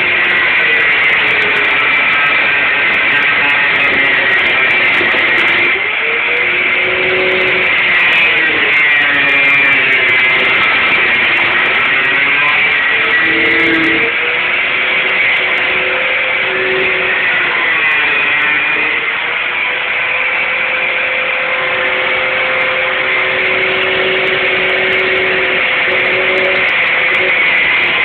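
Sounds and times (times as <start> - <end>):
angle grinder cutting sheet steel: 0.0 - 28.0.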